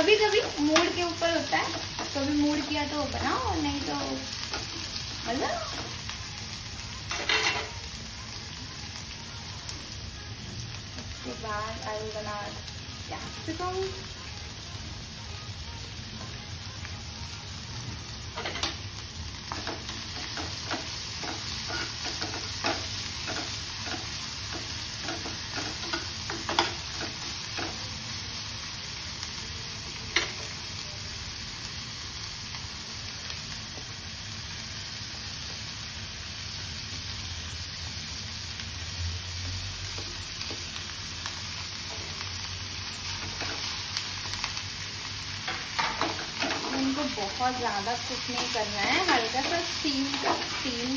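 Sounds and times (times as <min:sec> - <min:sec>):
vegetables sizzling in hot oil: 0:00.0 - 0:50.9.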